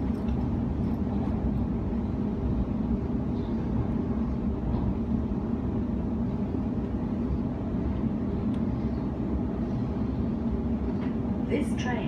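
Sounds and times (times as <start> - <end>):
steady hum: 0.0 - 12.0
train wheels rumbling on rail: 0.0 - 12.0.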